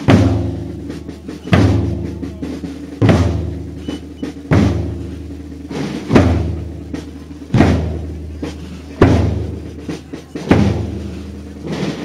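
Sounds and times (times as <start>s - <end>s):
bass drum with crash cymbal: 0.0s - 12.0s.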